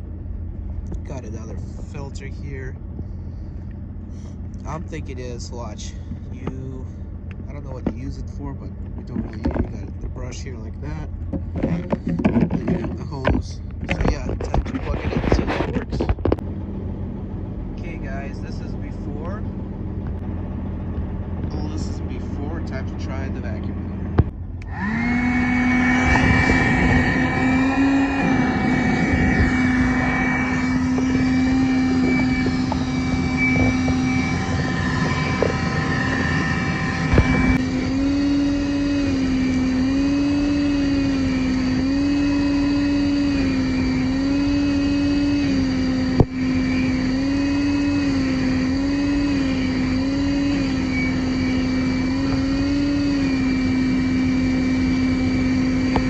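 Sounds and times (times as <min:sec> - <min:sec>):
vacuum motor whine: 0:00.0 - 0:56.0.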